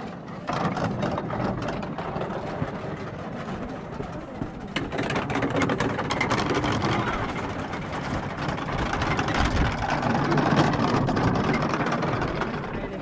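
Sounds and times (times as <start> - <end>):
metal prayer wheels rattling: 0.5 - 13.0.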